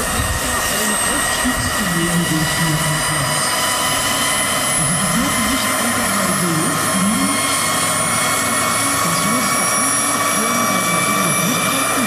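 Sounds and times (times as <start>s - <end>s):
model helicopter rotor whine: 0.0s - 12.0s.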